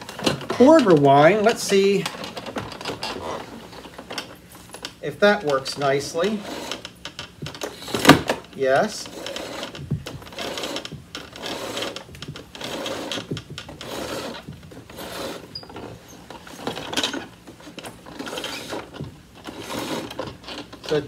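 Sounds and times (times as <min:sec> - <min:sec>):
vacuum cord rasping out of reel: 0:00.0 - 0:21.0.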